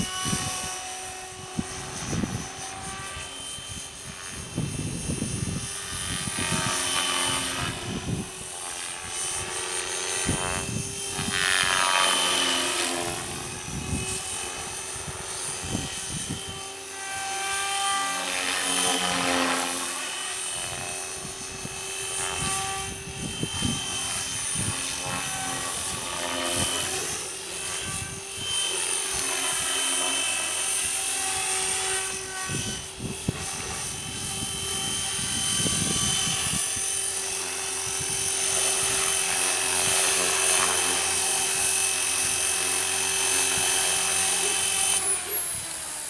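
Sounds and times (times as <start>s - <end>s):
model helicopter rotor whine: 0.0s - 46.0s.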